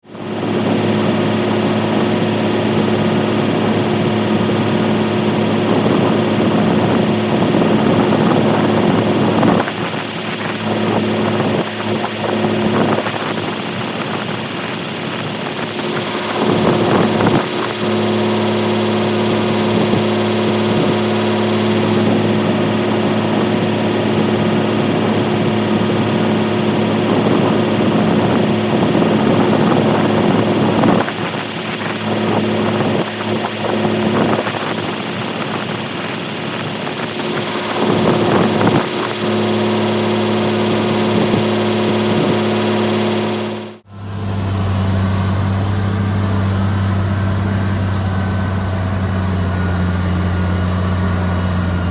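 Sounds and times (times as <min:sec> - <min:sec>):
bulldozer diesel engine running: 0:00.1 - 0:51.9.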